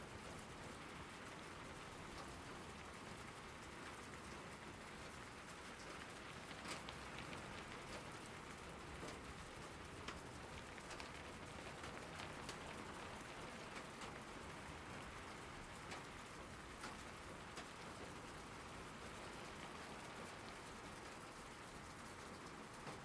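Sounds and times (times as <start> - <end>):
raindrops hitting a surface: 0.0 - 23.0
steady rain falling: 0.0 - 23.0.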